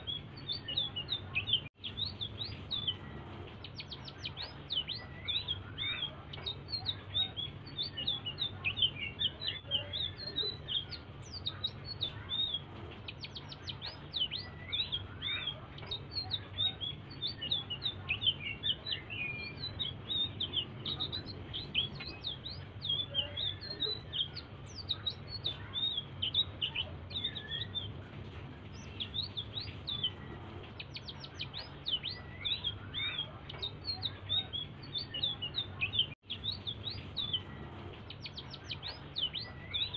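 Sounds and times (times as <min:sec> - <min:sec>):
low steady hum: 0:00.0 - 0:39.9
songbird chattering song: 0:00.0 - 0:39.9.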